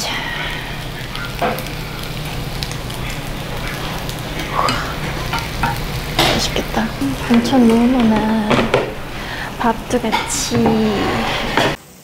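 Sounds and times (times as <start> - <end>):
pork sizzling on a griddle: 0.0 - 12.0.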